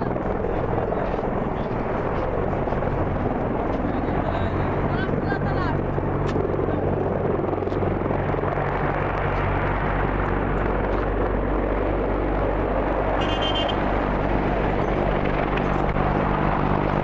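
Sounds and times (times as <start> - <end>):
engine humming and rushing: 0.0 - 17.0.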